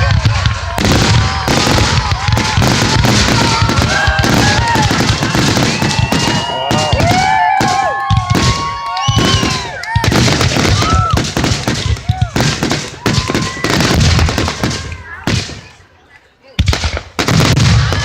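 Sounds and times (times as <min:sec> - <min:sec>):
fireworks bangs and crackling: 0:00.0 - 0:15.8, 0:16.6 - 0:18.0.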